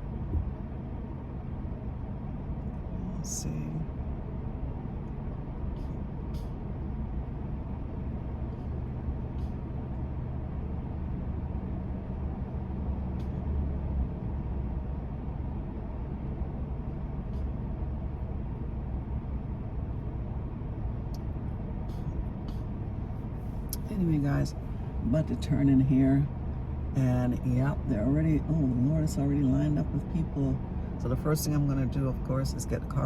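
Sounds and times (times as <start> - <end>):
road noise: 0.0 - 33.0
truck engine rumble: 0.0 - 33.0.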